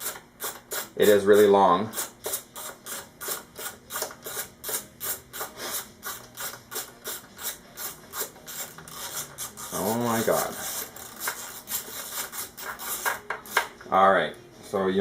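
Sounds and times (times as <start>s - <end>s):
hand tool rasping strokes: 0.0s - 13.7s.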